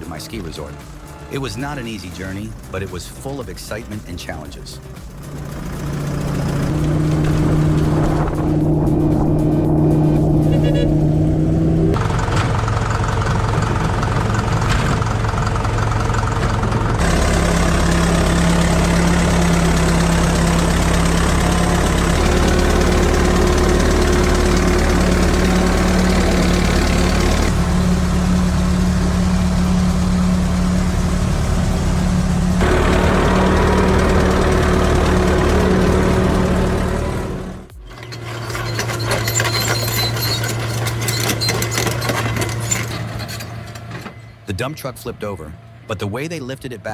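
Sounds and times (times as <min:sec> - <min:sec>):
heavy machinery engines running: 0:00.0 - 0:46.9.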